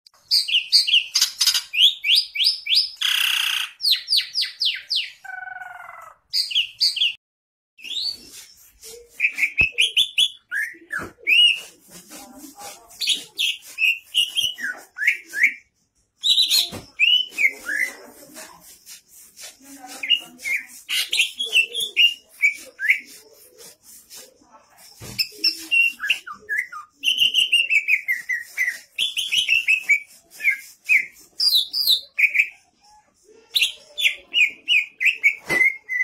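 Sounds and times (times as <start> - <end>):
bird whistling song: 0.2 - 7.2, 7.8 - 11.7, 13.0 - 18.2, 20.0 - 23.8, 24.7 - 36.0.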